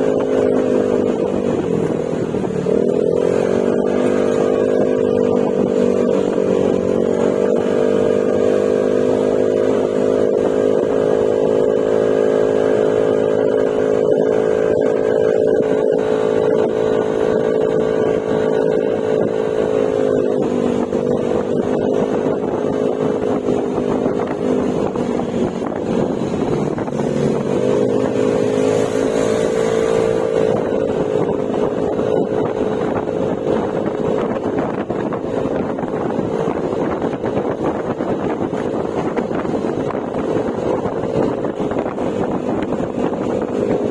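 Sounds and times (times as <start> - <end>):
scooter engine droning: 0.0 - 43.9
wind on microphone: 0.0 - 43.9.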